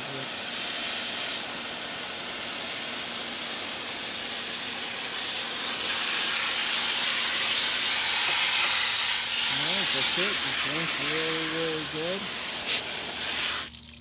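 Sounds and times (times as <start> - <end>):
water spray hissing on radiator: 0.0 - 13.8.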